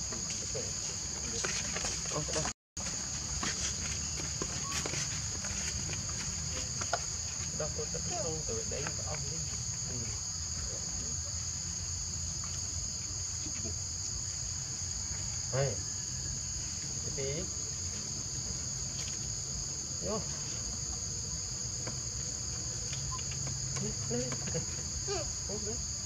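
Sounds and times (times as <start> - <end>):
high-pitched insect drone: 3.1 - 26.0.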